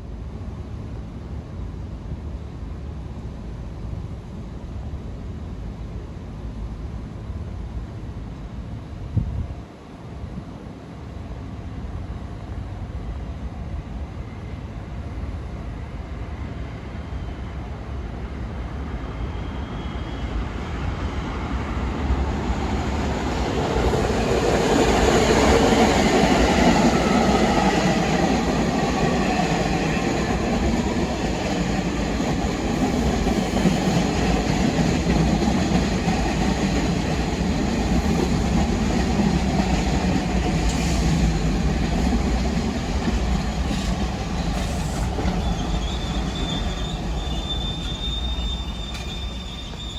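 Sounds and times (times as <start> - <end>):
subway train running: 0.0 - 49.9.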